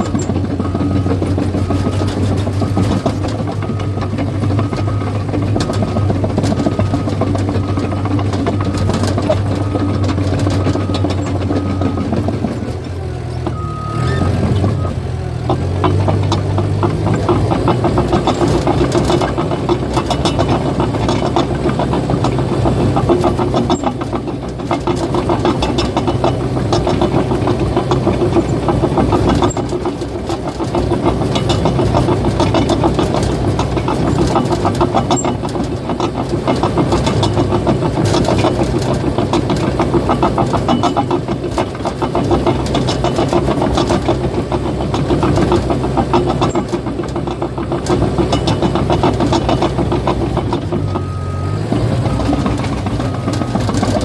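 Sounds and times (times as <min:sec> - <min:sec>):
bulldozer diesel engine running: 0:00.0 - 0:54.0
steel tracks clattering: 0:00.0 - 0:54.0.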